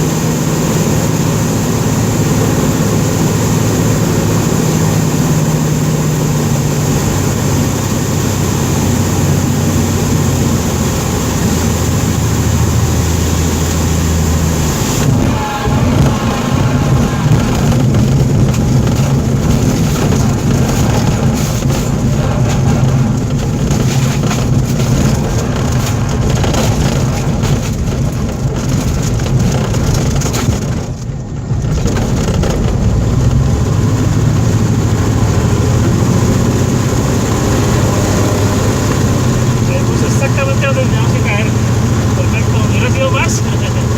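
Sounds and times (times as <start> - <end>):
piston aircraft engine running: 0.0 - 43.9.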